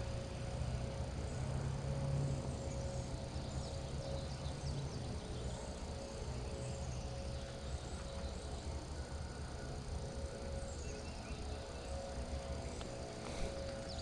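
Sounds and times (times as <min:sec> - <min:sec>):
faint steady tone: 0:00.0 - 0:14.0
low hum: 0:00.0 - 0:14.0
small birds chirping: 0:02.5 - 0:14.0.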